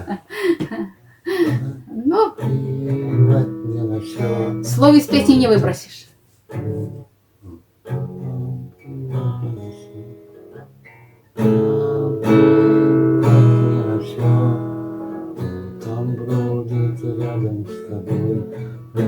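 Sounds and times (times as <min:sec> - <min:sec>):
acoustic guitar chords and strumming: 0:00.0 - 0:05.8, 0:06.5 - 0:19.0.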